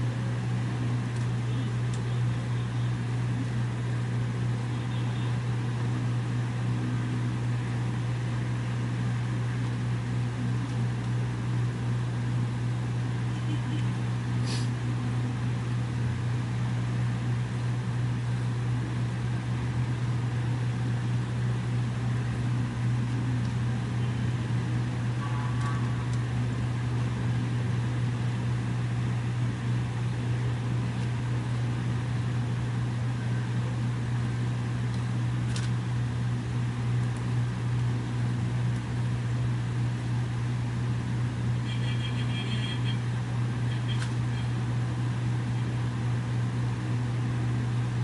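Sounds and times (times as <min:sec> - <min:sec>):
low machine hum: 0:00.0 - 0:48.0.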